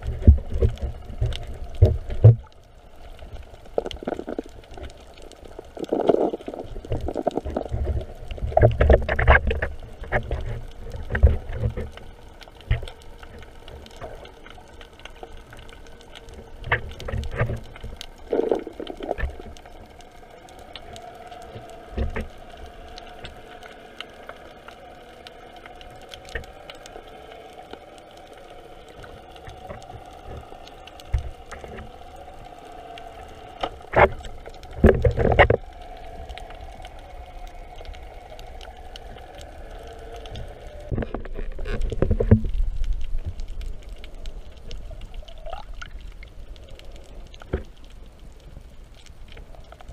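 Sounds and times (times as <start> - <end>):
water noise: 0.0 - 49.9.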